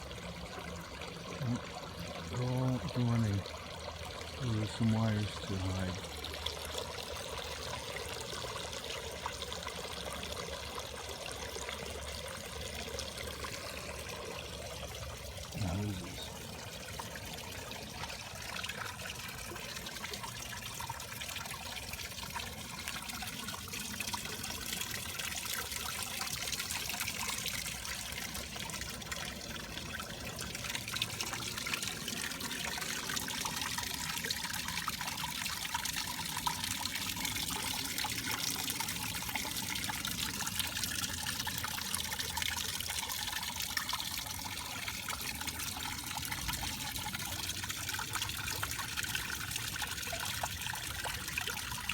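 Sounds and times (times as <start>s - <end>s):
fountain water splashing: 0.0s - 51.9s.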